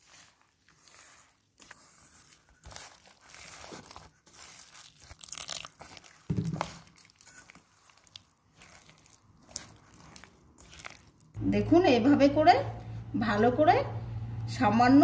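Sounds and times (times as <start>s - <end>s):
hand squishing wet dough mix: 0.0s - 14.9s.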